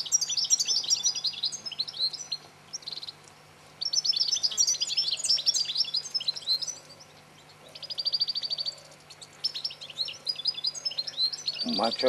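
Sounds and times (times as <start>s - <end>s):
goldfinch twittering song: 0.0s - 12.0s.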